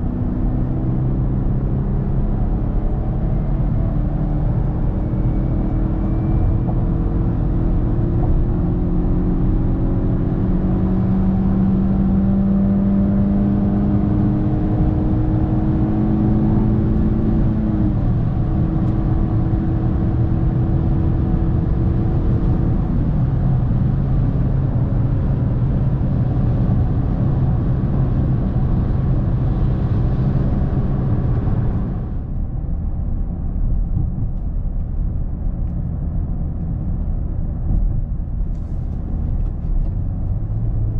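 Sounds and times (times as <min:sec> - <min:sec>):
car engine drone: 0:00.0 - 0:40.9.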